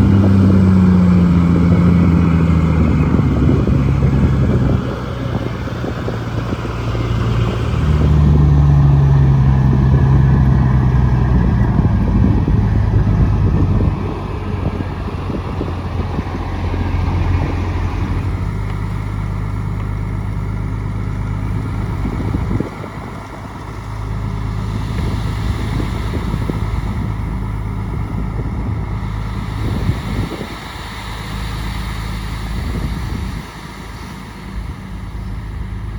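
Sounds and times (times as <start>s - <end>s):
bulldozer diesel engine: 0.0s - 35.9s.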